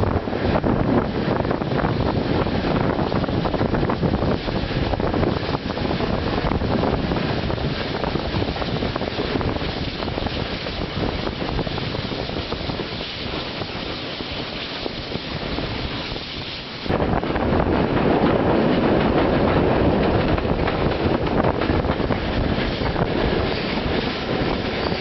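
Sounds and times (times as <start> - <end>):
train running noise: 0.0 - 25.0
wind buffeting microphone: 0.0 - 25.0.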